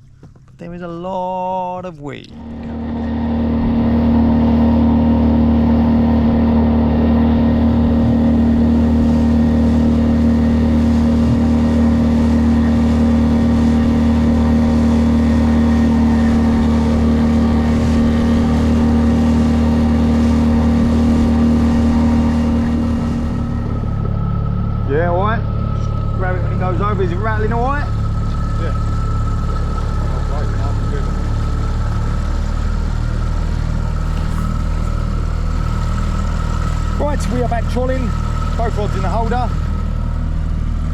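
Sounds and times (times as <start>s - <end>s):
outboard motor running: 0.0s - 1.6s, 2.2s - 40.9s.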